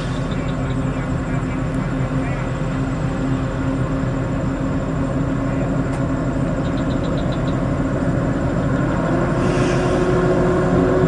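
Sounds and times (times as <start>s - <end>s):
truck diesel engine droning: 0.0s - 11.0s.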